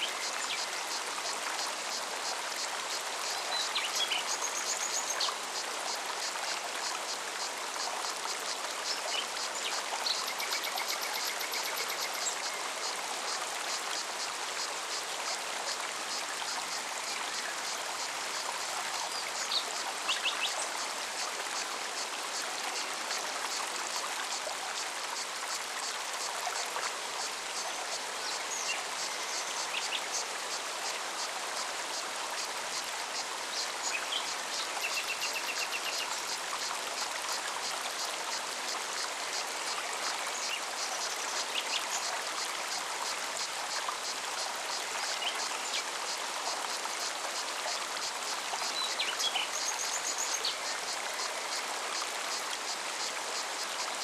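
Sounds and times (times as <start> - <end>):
cicada song: 0.0 - 54.0
forest stream rushing: 0.0 - 54.0.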